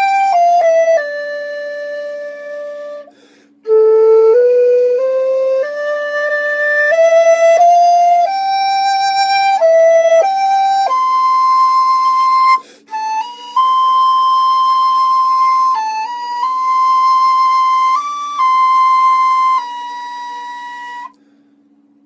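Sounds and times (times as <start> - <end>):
flute-like melody: 0.0 - 21.2.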